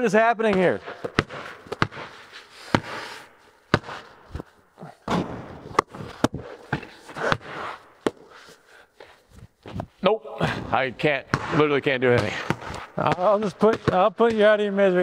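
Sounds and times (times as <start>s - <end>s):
basketballs bouncing on concrete: 0.4s - 8.5s, 9.6s - 15.0s.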